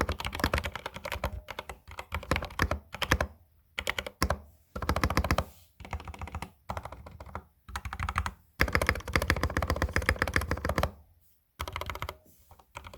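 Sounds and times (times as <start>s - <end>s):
mechanical keyboard typing: 0.0s - 11.0s, 11.6s - 12.9s.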